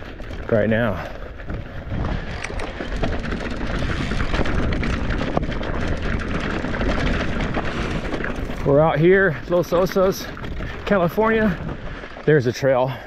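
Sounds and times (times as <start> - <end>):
wind rumble on microphone: 0.0 - 12.5
bike rattling with clicks: 0.0 - 12.9
tyres crunching over gravel: 0.0 - 13.0.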